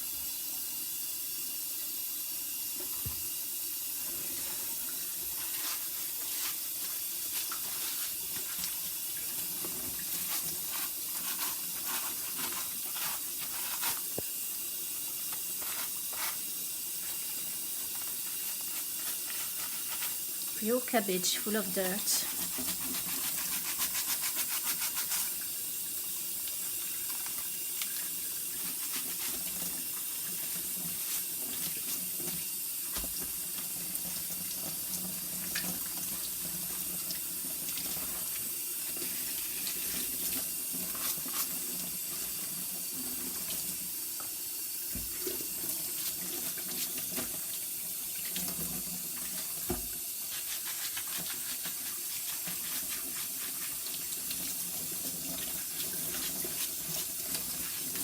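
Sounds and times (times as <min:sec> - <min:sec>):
tap running into a sink: 0:02.7 - 0:20.6, 0:24.4 - 0:58.0.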